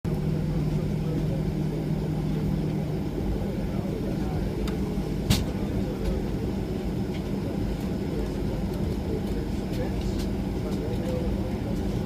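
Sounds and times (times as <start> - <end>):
airliner cabin rumble: 0.1 - 12.0
faint hum: 0.1 - 12.0.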